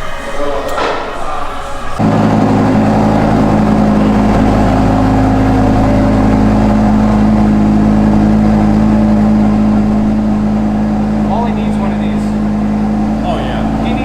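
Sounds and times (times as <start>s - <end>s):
car engine running steadily: 2.0s - 14.0s.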